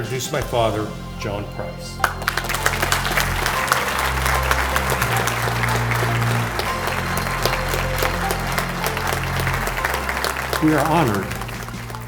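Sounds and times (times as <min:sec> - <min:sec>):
background music with bass: 0:00.0 - 0:12.0
audience applauding: 0:02.0 - 0:12.0.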